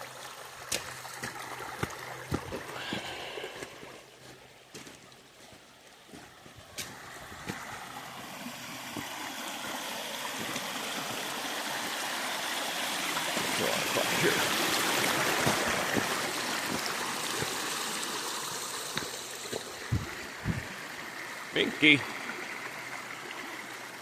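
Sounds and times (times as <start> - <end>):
creek water running over rocks: 0.0 - 24.0.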